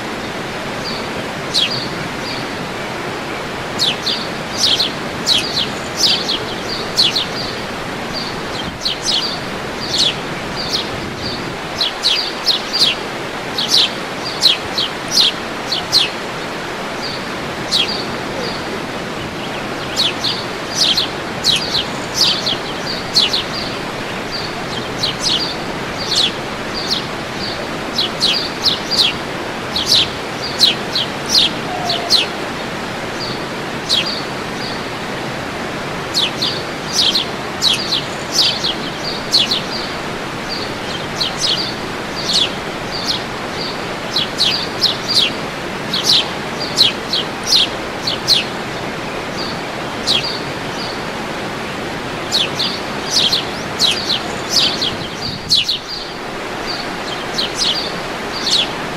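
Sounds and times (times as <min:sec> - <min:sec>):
songbirds chirping: 0:00.0 - 0:58.9
waterfall rushing: 0:00.0 - 0:58.9.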